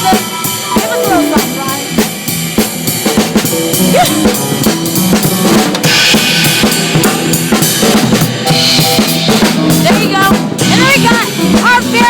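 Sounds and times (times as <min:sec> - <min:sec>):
drum kit playing: 0:00.0 - 0:12.0
keyboard and bass notes: 0:00.0 - 0:12.0.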